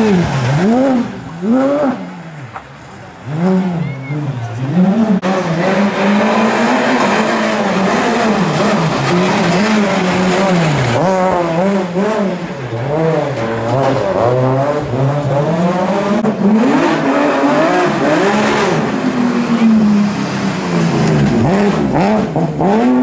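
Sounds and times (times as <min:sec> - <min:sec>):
rally car engine revving: 0:00.0 - 0:23.0
second rally car engine: 0:00.0 - 0:23.0.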